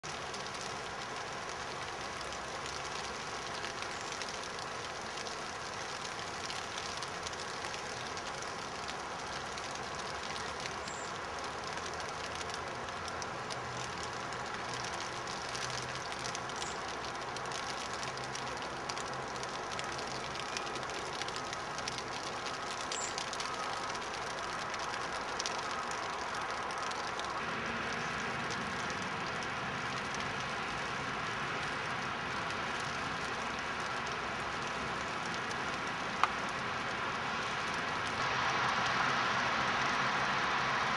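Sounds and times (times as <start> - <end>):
wet snow pattering on leaves: 0.0 - 40.9.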